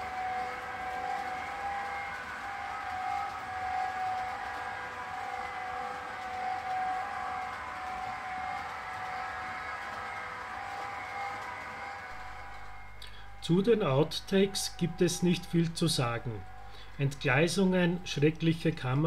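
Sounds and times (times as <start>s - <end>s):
model train locomotive whine: 0.0s - 18.5s.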